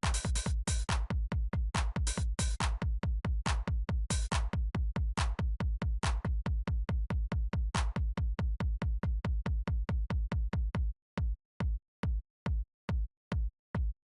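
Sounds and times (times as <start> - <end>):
drum-machine beat with deep kicks: 0.0 - 14.0.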